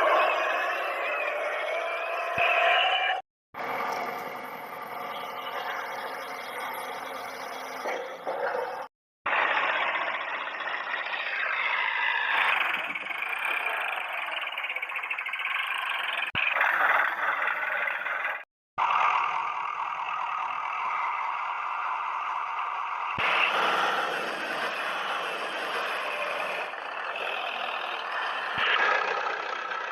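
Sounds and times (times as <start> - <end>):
toy vehicles engine-like whine: 0.0 - 29.9.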